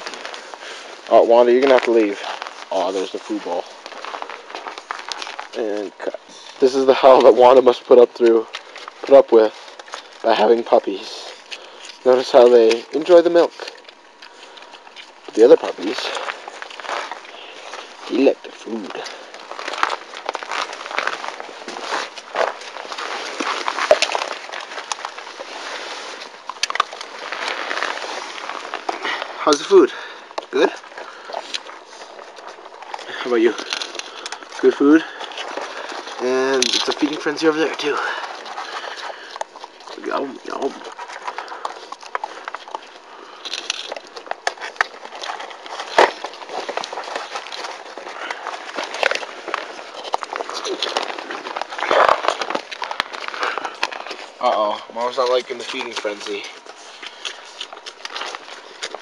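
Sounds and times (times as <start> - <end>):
puppies crunching food: 0.0 - 59.0.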